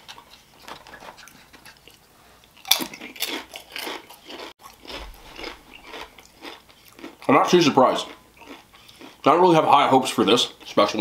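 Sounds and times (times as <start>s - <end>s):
person chewing crunchy food: 0.0s - 9.3s.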